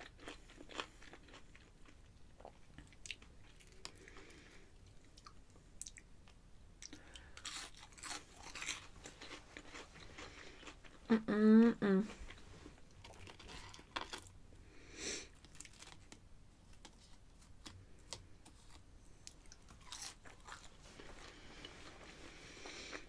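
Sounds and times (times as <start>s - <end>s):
person chewing crunchy food: 0.0s - 11.2s, 12.1s - 14.4s, 15.3s - 23.0s.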